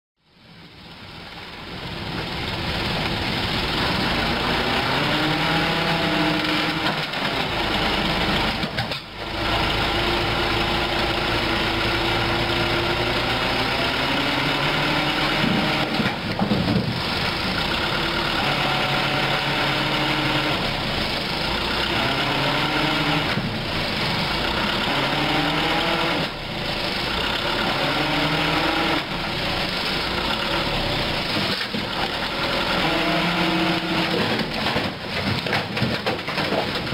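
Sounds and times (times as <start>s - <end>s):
diesel truck engine revving: 1.3s - 36.9s.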